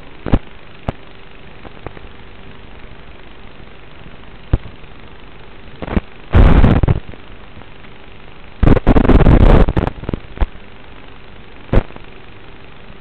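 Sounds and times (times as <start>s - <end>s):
loud bursts of static: 0.0s - 13.0s
receiver hiss: 0.0s - 13.0s.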